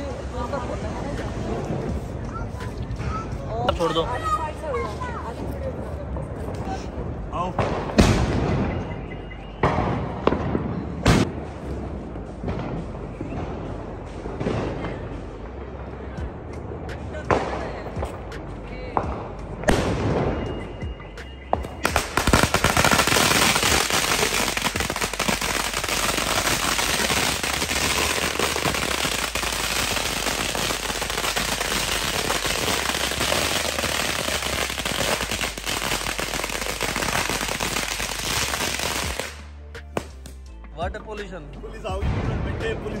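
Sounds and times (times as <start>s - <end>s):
firecrackers going off: 0.0s - 20.9s, 21.5s - 40.4s.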